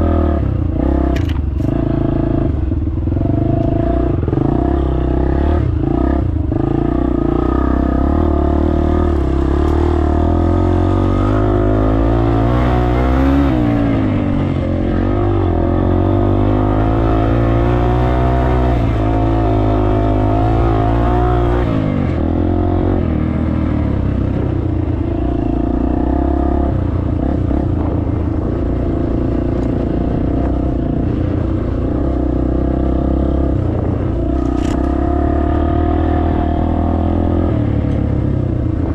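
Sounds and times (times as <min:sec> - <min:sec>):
dirt bike engine revving: 0:00.0 - 0:31.3.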